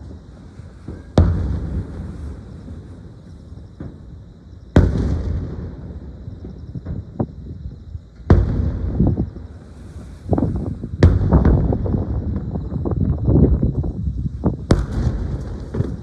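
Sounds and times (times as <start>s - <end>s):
fireworks cracks: 0.0s - 7.5s, 8.1s - 16.0s
fireworks booming: 0.0s - 16.0s.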